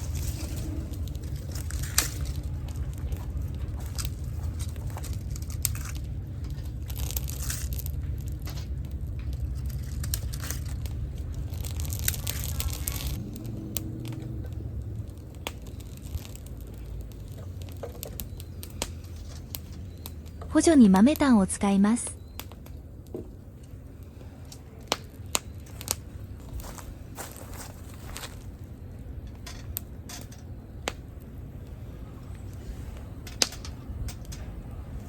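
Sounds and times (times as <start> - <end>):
rustling of paper and twigs: 0.0 - 30.4
steady low rumble: 0.0 - 35.0.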